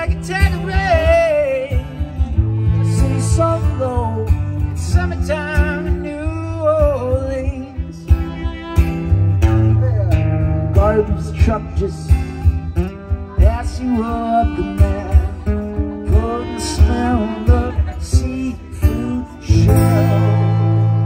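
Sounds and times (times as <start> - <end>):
acoustic guitar strumming chords: 0.0 - 21.0
fiddle playing melody: 0.0 - 21.0.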